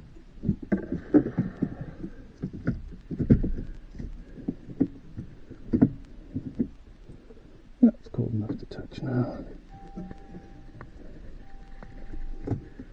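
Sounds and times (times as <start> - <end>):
faint steady tone: 0.0 - 12.9.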